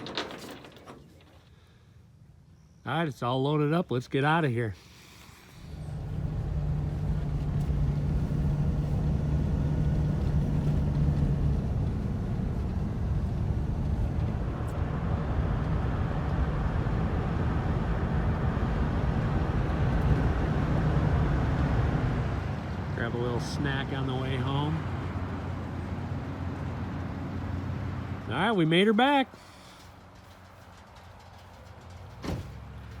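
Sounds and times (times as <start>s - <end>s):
tyre and road noise: 0.0s - 1.8s, 4.8s - 33.0s
vehicle engine drone: 5.3s - 33.0s.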